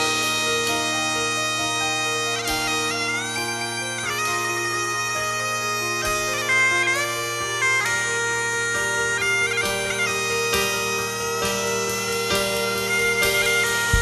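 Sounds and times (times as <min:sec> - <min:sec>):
bagpipe chanter melody: 0:00.0 - 0:14.0
bagpipe drone: 0:00.0 - 0:14.0.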